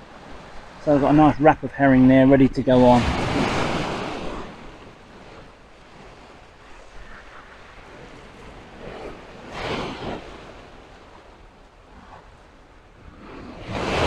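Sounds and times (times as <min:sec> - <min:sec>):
small waves breaking on beach: 0:00.0 - 0:14.0
wind on microphone: 0:00.0 - 0:14.0.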